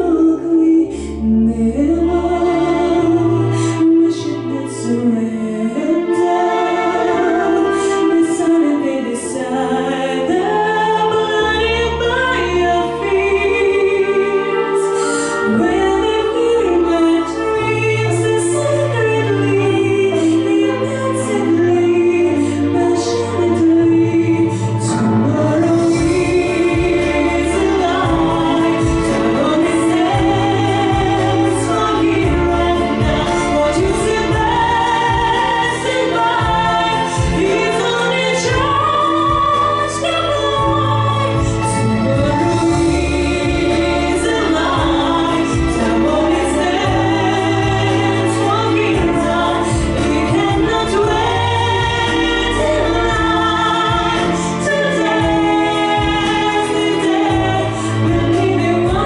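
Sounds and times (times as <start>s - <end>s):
choir-like backing vocals: 0.0s - 59.0s
pop ballad backing track: 0.0s - 59.0s.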